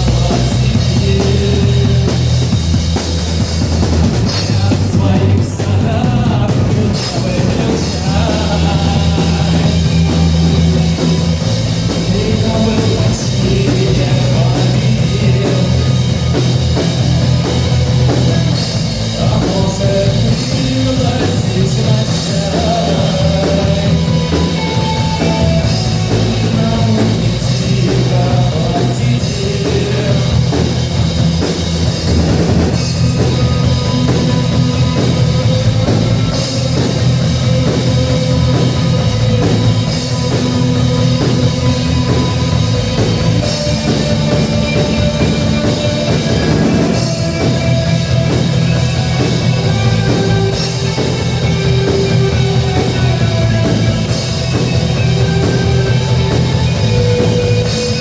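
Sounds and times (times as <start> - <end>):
rock song with singing: 0.0 - 58.0.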